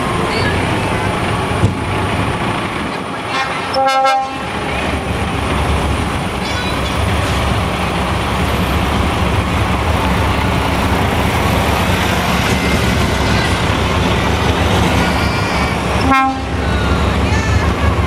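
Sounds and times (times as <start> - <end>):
heavy diesel truck engines: 0.0 - 18.0.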